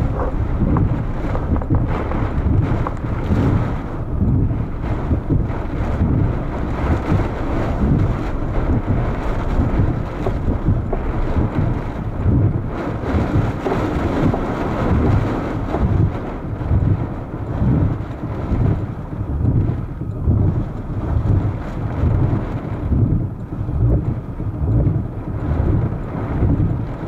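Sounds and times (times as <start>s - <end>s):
gusty wind buffeting microphone: 0.0s - 27.0s.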